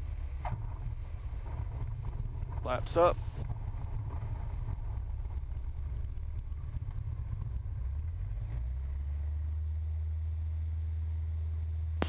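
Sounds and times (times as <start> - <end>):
plane rolling on runway: 0.0 - 12.0
small plane engine drone: 0.0 - 12.0.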